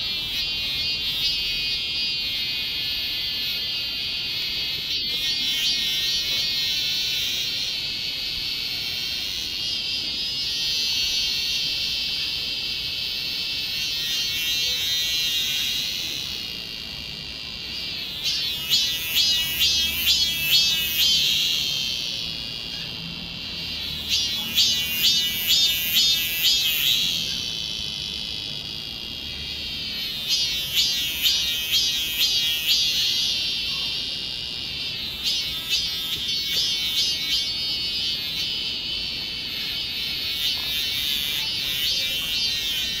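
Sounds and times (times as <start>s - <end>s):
cicada buzzing song: 0.0s - 43.0s.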